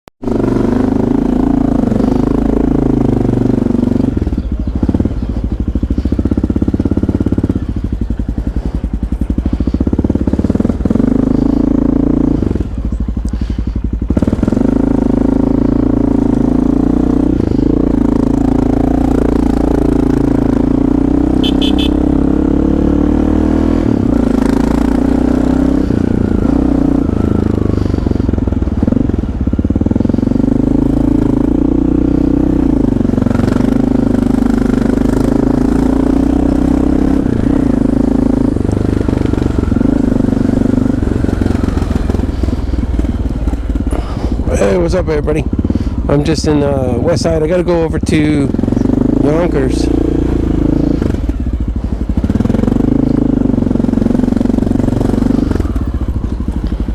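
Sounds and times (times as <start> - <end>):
motorcycle engine running: 0.2 - 56.9.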